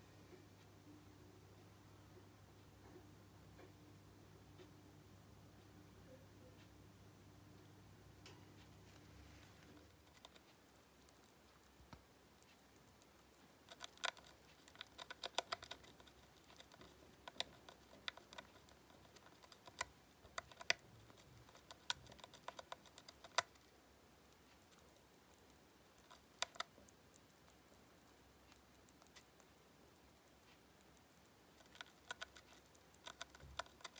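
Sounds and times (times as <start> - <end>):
hamster gnawing chew toy: 6.5 - 33.9.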